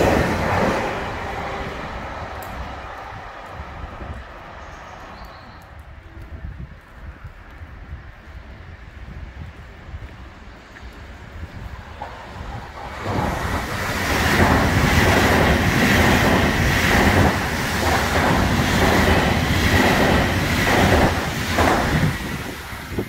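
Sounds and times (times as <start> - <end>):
high-pitched train hum: 0.0 - 6.7, 8.4 - 23.0
train passing at speed: 0.0 - 7.6, 8.2 - 23.0.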